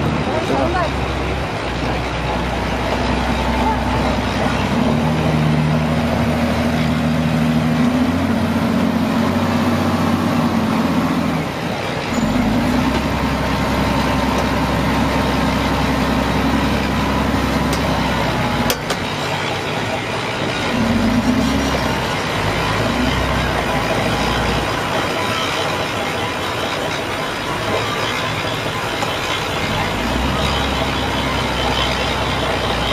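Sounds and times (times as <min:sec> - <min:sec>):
conveyor machinery humming: 0:00.0 - 0:32.9.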